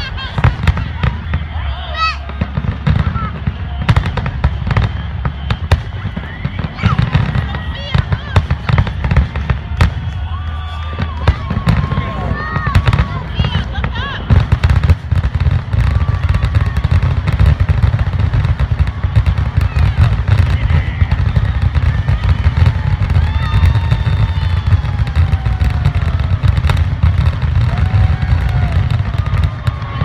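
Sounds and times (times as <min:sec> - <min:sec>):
firework cracks and crackle: 0:00.0 - 0:30.0
firework shells booming: 0:00.0 - 0:30.0.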